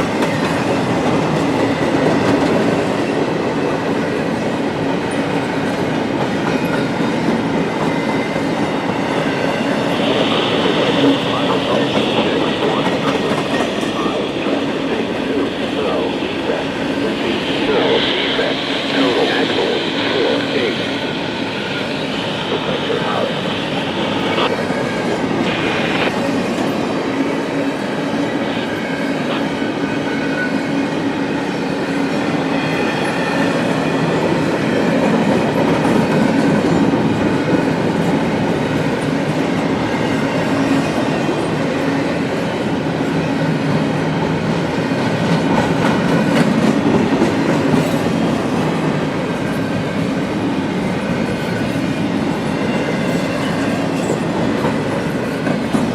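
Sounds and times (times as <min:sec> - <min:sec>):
freight train cars rolling past: 0:00.0 - 0:55.9.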